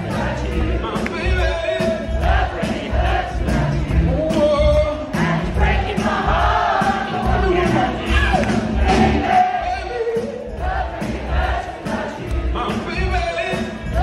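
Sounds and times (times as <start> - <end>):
crowd singing along: 0.0 - 14.0
live band playing pop song: 0.0 - 14.0.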